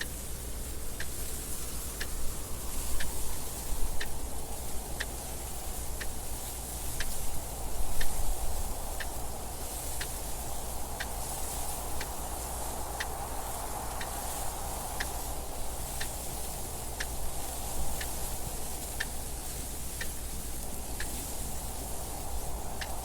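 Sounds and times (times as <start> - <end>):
rushing wind noise: 0.0 - 23.0.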